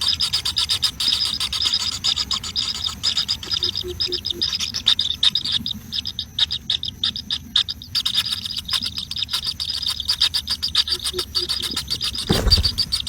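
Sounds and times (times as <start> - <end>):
nestling birds cheeping: 0.0 - 13.0.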